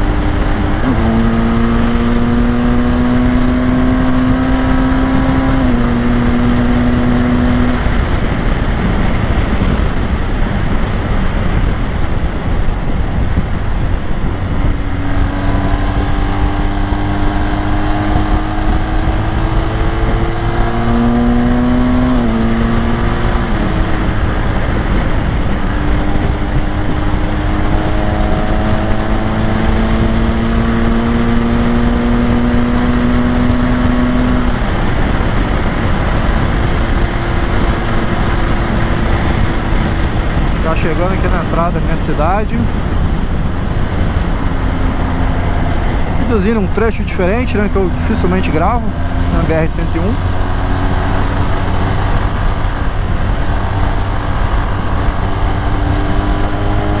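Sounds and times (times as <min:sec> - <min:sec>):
motorcycle engine at speed: 0:00.0 - 0:57.0
wind rush: 0:00.0 - 0:57.0.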